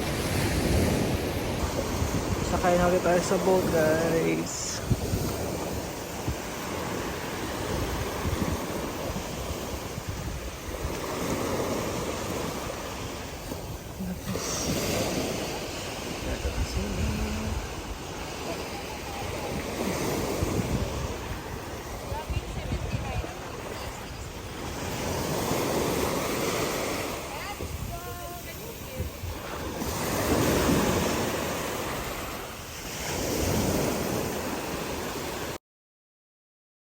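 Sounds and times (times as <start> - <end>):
sea surf washing in: 0.0 - 35.6
wind gusting on microphone: 0.0 - 35.6.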